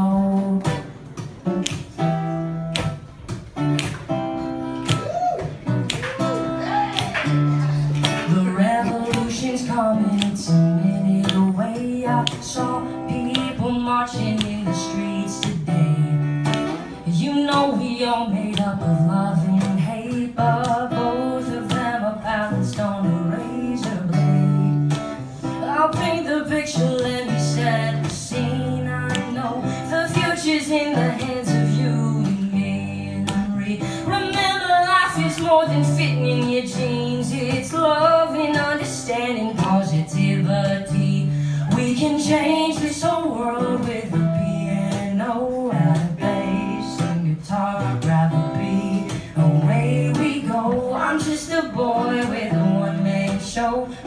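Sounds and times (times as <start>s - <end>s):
man singing: 0.0s - 1.0s, 6.2s - 25.0s, 25.6s - 54.0s
acoustic guitar: 0.0s - 54.0s.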